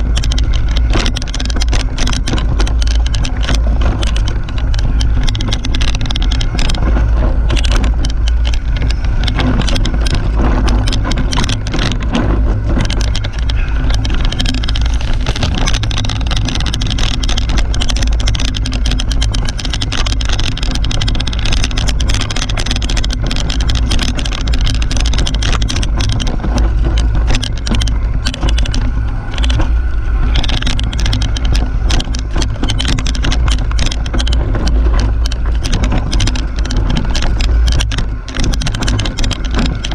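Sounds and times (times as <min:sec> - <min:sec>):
bike clicking and rattling: 0:00.0 - 0:39.9
wind rumble on microphone: 0:00.0 - 0:39.9.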